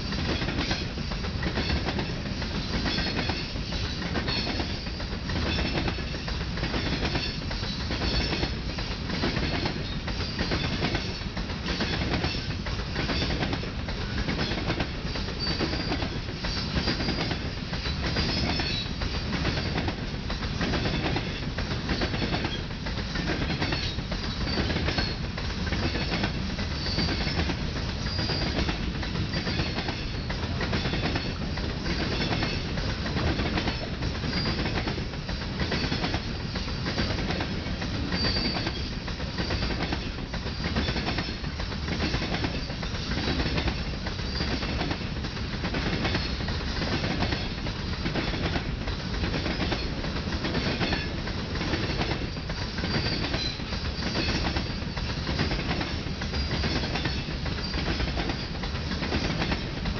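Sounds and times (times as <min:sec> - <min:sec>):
train rumble: 0:00.0 - 0:59.9
wheel squeaks on rail: 0:00.0 - 0:59.9
wheels clicking over rail joints: 0:00.0 - 0:59.9.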